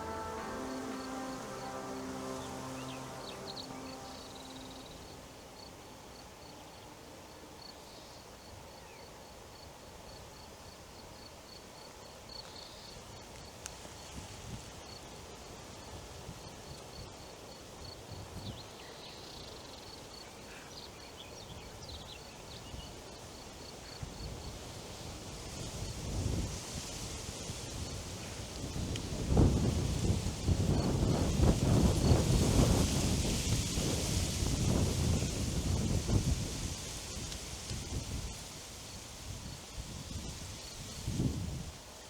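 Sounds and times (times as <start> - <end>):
wind rustling leaves: 0.0 - 10.5, 11.6 - 19.1, 21.1 - 42.0.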